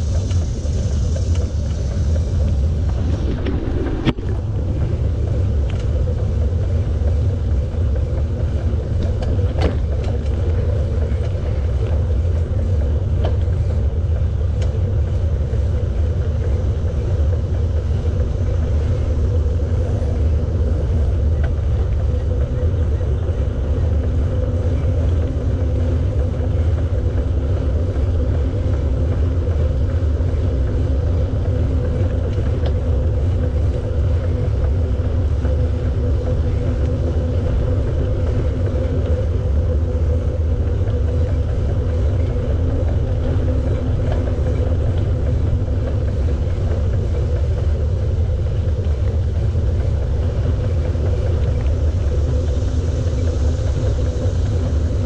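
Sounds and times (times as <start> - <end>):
bicycle tyres rolling on path: 0.0 - 55.0
faint steady hum: 0.0 - 55.0
wind on microphone: 0.0 - 55.0.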